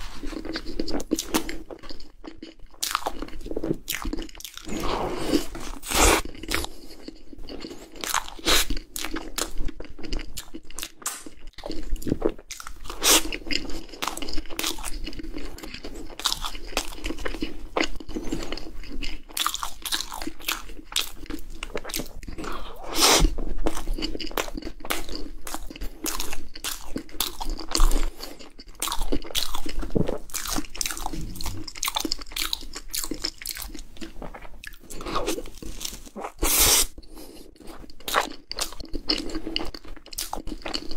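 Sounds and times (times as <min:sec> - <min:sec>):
person chewing crunchy pastry: 0:00.0 - 0:40.9.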